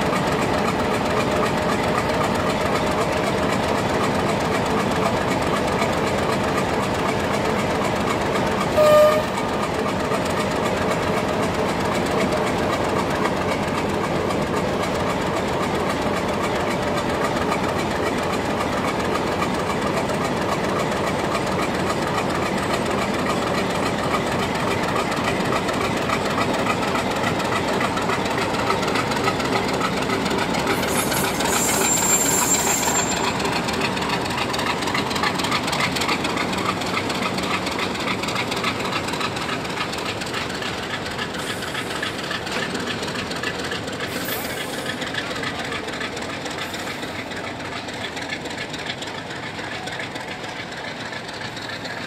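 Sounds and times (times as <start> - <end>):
diesel locomotive engine running: 0.0 - 52.0
train wheels rolling on rails: 0.0 - 52.0.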